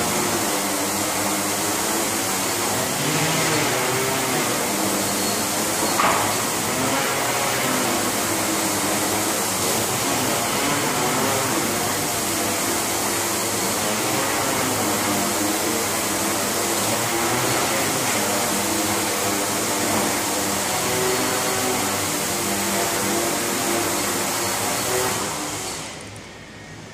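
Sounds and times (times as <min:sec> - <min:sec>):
drone propellers whirring: 0:00.0 - 0:26.9.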